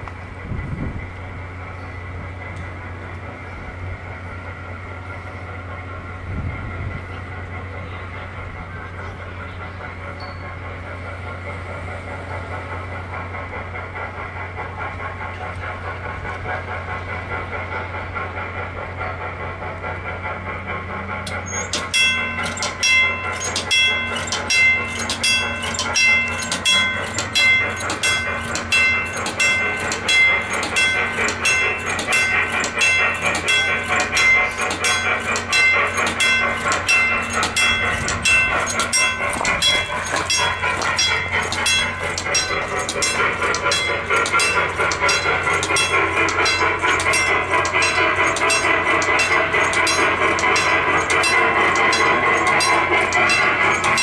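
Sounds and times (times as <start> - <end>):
train rolling: 0.0 - 54.0.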